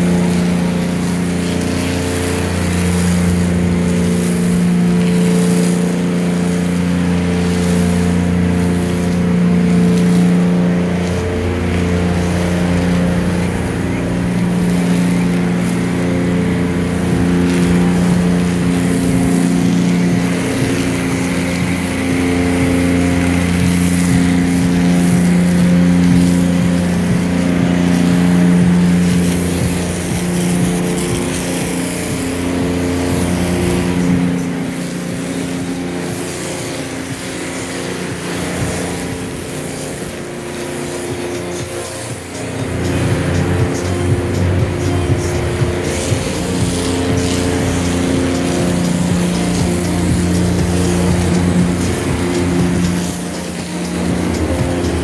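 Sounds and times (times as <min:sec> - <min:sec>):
high-pressure spray hiss: 0:00.0 - 0:55.0
pump hum: 0:00.0 - 0:55.0.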